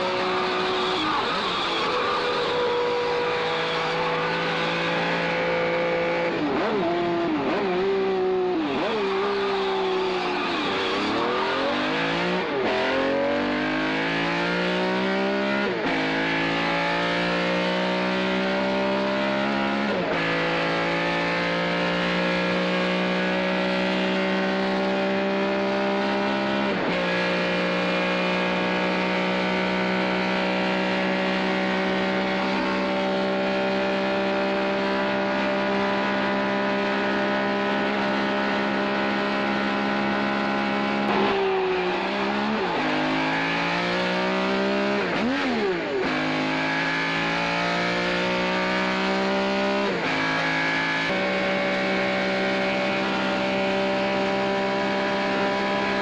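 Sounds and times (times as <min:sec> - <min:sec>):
sports car engine revving: 0:00.0 - 0:56.0.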